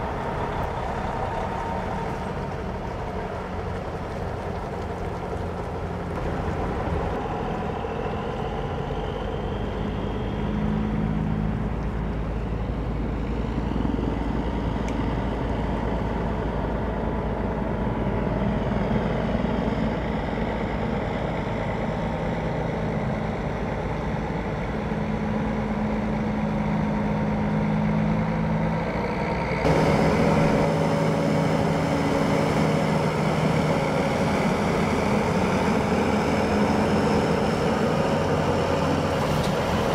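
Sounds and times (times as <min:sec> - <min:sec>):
diesel truck engine pulling away: 0:00.0 - 0:39.9.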